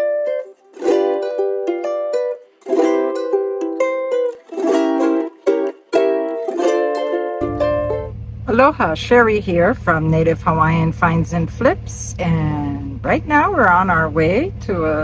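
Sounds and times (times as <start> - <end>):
strummed ukulele: 0.0 - 15.0.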